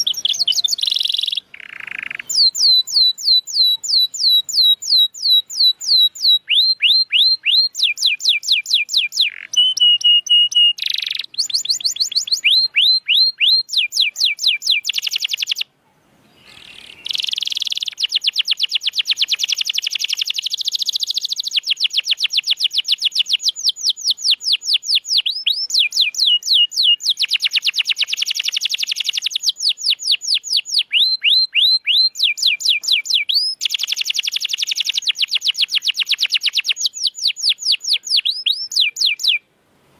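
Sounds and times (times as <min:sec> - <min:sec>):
canary singing trills: 0:00.0 - 0:39.4.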